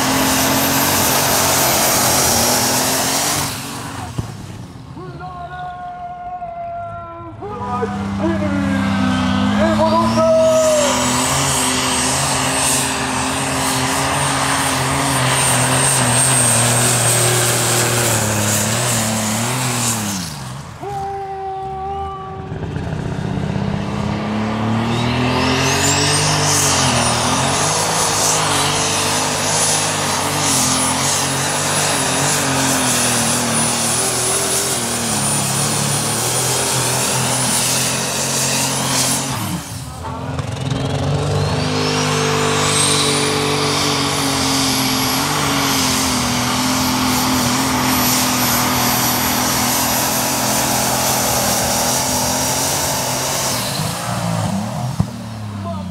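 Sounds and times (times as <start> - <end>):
high engine whine: 0.0 - 55.9
tractor engines running under load: 0.0 - 55.9.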